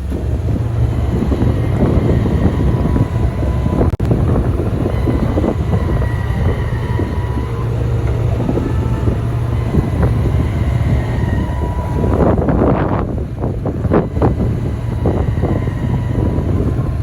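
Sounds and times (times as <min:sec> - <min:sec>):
ferry diesel engines rumbling: 0:00.0 - 0:17.0.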